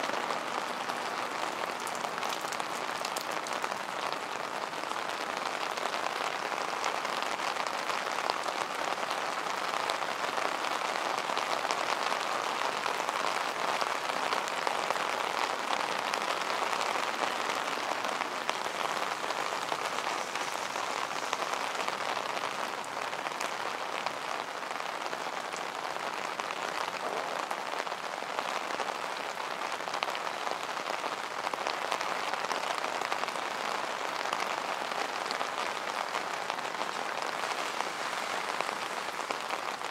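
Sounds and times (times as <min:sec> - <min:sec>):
heavy rain on pavement: 0:00.0 - 0:39.9.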